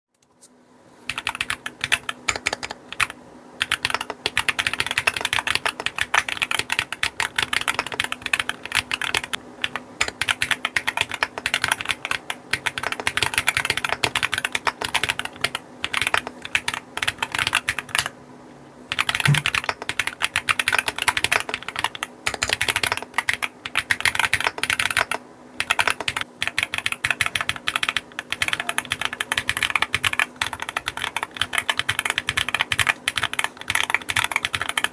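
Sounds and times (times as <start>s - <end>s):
mechanical keyboard typing: 1.1s - 18.1s, 18.9s - 34.9s.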